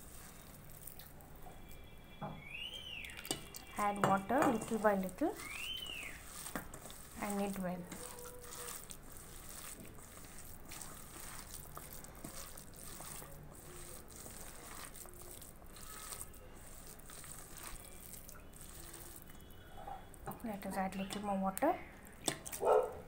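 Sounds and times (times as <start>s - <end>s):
hands kneading wet mixture: 0.0s - 23.0s.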